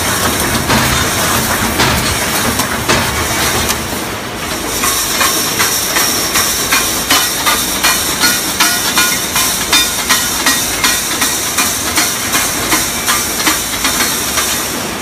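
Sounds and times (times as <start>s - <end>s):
sharp mechanical knocks: 0.0s - 14.8s
welding machine clatter and hiss: 0.0s - 15.0s.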